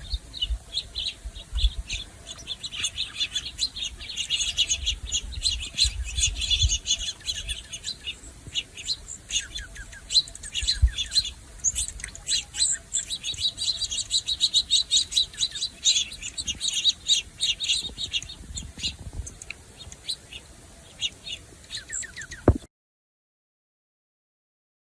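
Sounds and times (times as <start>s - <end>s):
birds chirping and twittering: 0.0s - 22.7s.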